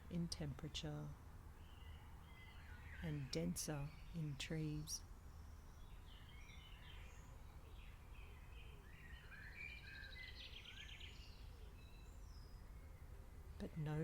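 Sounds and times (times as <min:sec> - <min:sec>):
bird calls and chirps: 0:01.6 - 0:14.0.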